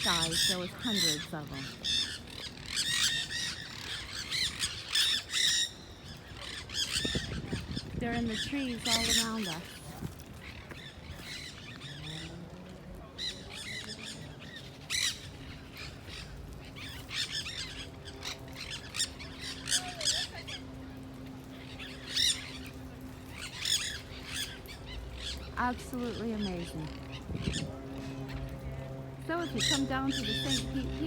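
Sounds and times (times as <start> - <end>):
parrots squawking: 0.0 - 9.8, 13.2 - 28.4, 29.4 - 31.0.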